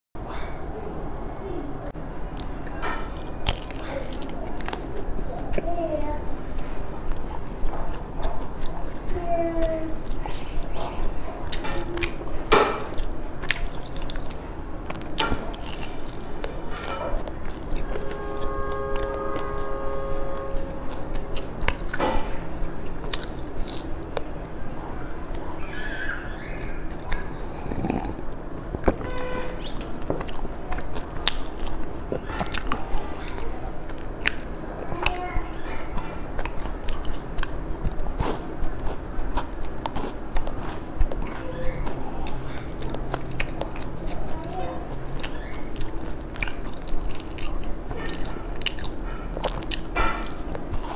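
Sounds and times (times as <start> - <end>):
chewing crumbly pastry: 2.2 - 50.9.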